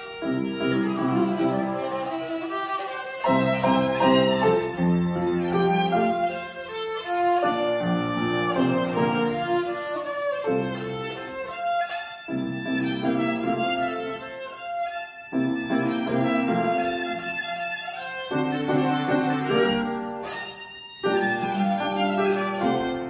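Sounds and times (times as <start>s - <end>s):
upright piano chords: 0.0s - 14.5s, 15.3s - 20.4s, 21.0s - 23.0s
violin melody: 0.0s - 23.0s.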